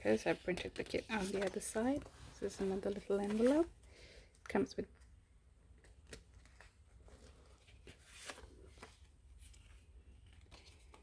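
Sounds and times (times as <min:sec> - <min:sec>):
paper and cards rustling: 0:00.0 - 0:03.7, 0:05.7 - 0:11.0.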